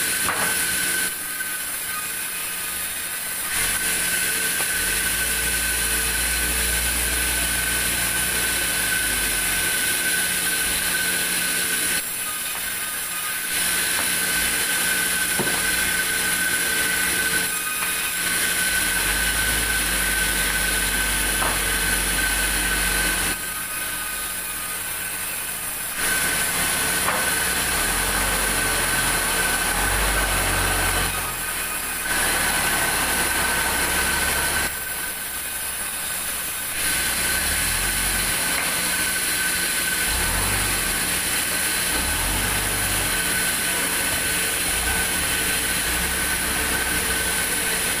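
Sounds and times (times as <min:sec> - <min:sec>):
band saw cutting timber: 0:00.0 - 0:48.0.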